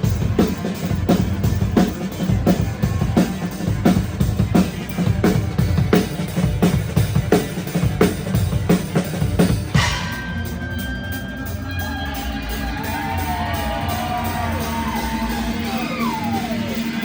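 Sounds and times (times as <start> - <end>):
drum beat: 0.0 - 10.9, 12.5 - 17.0
bending guitar notes: 0.0 - 17.0.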